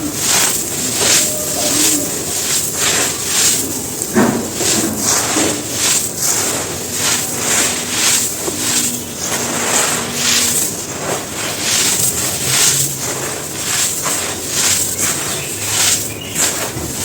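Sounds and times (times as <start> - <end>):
dry cement crunching by hand: 0.0 - 17.0.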